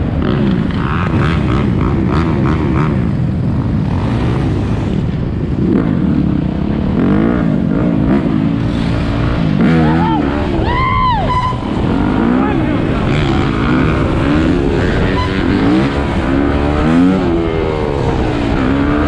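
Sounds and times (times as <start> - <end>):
dirt bike engines revving: 0.0 - 19.0
traffic rumble: 0.0 - 19.0.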